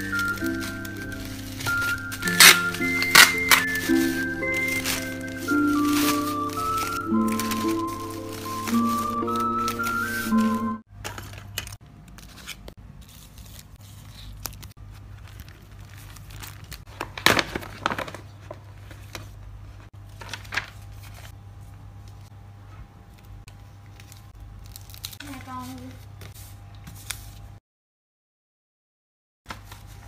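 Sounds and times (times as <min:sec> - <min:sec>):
plastic sheets crinkling: 0:00.0 - 0:22.3, 0:23.1 - 0:27.5, 0:29.5 - 0:30.0.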